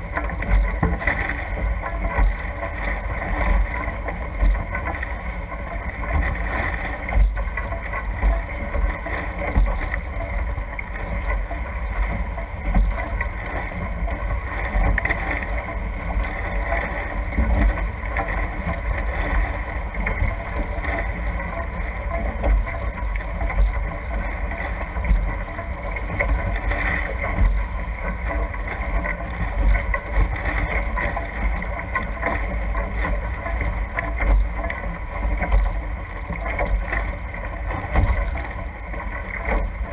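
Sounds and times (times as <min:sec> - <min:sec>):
water rushing off boat hulls: 0:00.0 - 0:39.9.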